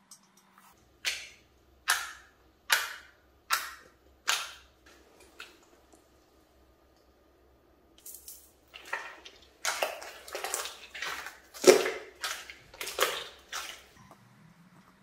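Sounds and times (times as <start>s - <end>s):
slime squelching: 0.7s - 7.4s, 8.0s - 14.0s.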